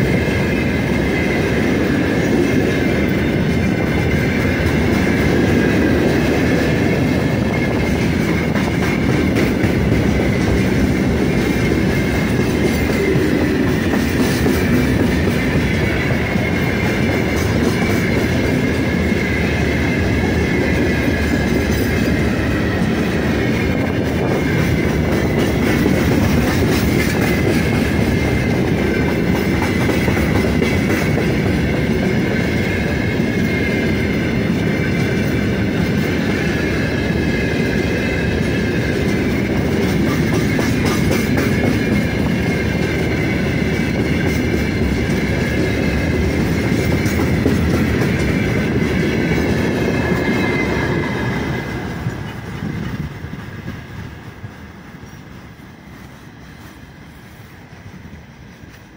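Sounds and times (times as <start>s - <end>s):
clickety-clack over rail joints: 0.0s - 58.9s
train wheels rumbling on rail: 0.0s - 58.9s.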